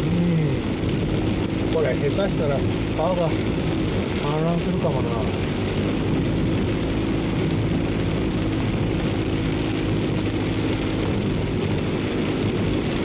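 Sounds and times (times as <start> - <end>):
car engine hum: 0.0 - 13.0
rain on car: 0.0 - 13.0.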